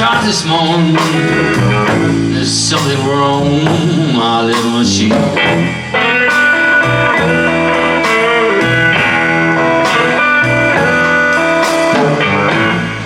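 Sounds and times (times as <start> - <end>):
electric guitar blues licks: 0.0 - 13.0
low bass notes: 0.0 - 13.0.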